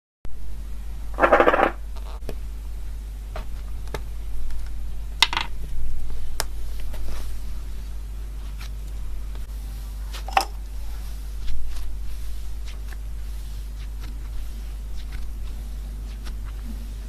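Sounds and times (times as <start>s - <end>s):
steady low hum: 0.3s - 17.0s.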